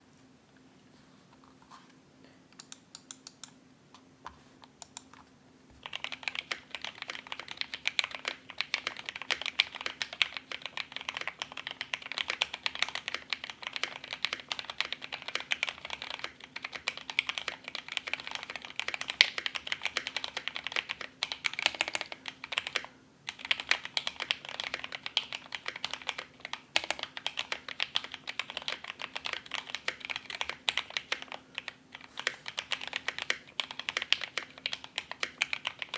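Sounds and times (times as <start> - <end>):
mechanical keyboard typing: 5.8 - 35.9.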